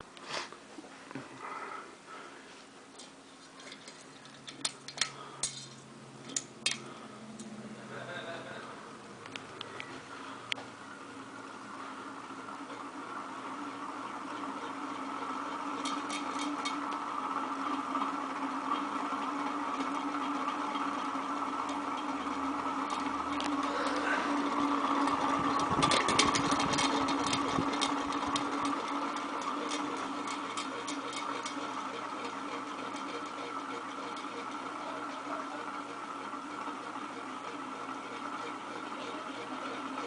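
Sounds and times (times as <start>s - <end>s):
ceiling fan humming: 0.0s - 40.0s
fan clicking: 2.9s - 40.0s.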